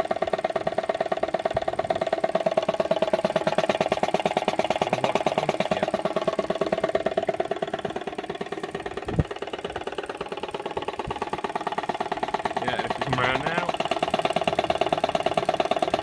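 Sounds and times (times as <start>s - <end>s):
piston air compressor running: 0.0s - 16.0s.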